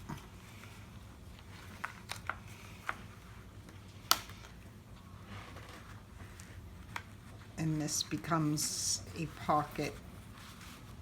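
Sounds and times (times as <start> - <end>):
soft paper rustle: 0.0 - 11.0.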